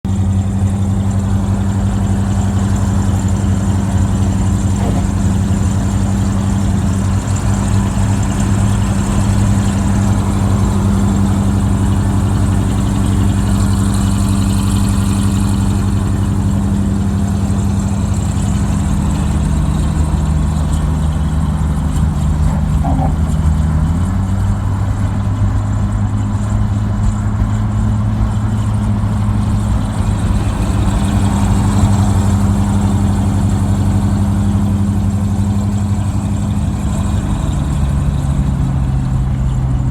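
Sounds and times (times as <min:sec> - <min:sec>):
diesel truck engine exhaust note: 0:00.0 - 0:39.9.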